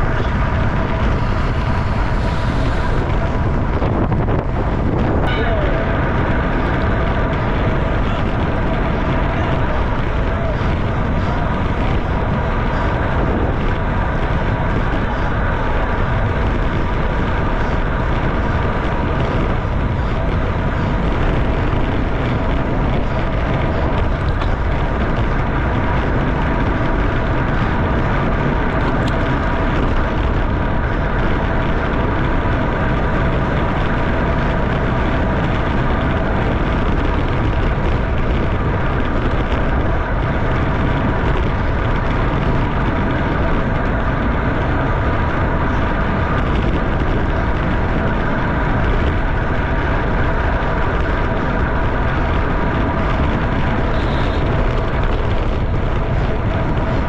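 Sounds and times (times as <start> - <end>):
road noise: 0.0 - 57.0
wind rush on microphone: 0.0 - 57.0.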